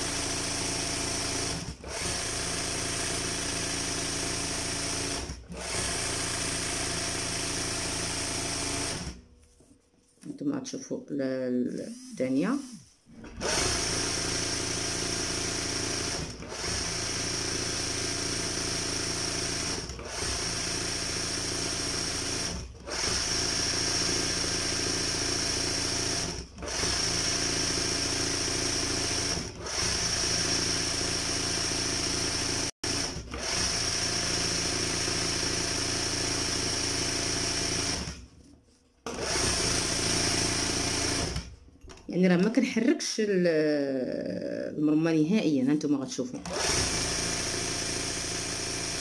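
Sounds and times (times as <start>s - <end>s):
embroidery sewing machine running: 0.0s - 9.2s, 11.8s - 38.3s, 39.0s - 41.6s, 46.4s - 49.0s.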